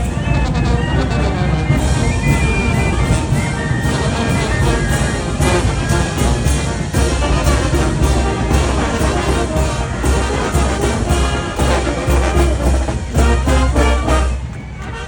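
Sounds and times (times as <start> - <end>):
brass band playing: 0.0 - 15.0
trumpets and trombones: 0.0 - 15.0.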